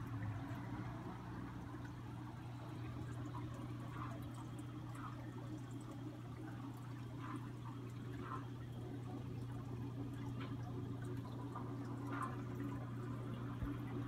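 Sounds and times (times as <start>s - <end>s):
aquarium filter hum: 0.0s - 14.0s
small water splashes and drips: 0.0s - 14.0s
trickling water: 0.0s - 14.0s.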